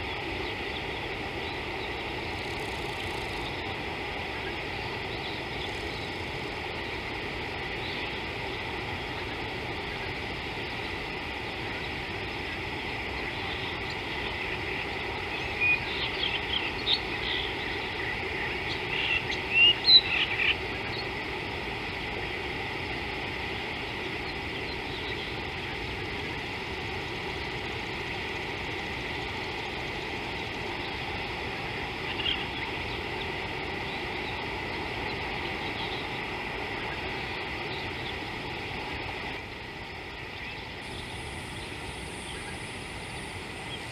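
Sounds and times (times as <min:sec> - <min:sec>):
constant hiss: 0:00.0 - 0:43.9.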